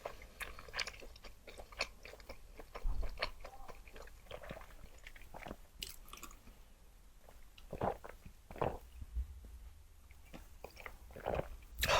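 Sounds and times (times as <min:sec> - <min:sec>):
wet chewing sounds: 0:00.0 - 0:06.6, 0:07.2 - 0:09.0, 0:10.1 - 0:11.9.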